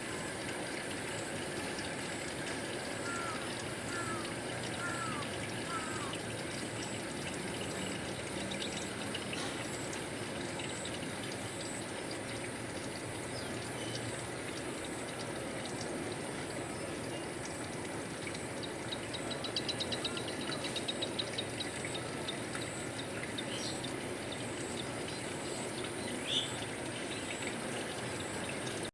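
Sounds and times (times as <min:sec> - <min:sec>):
water trickling: 0:00.0 - 0:28.9.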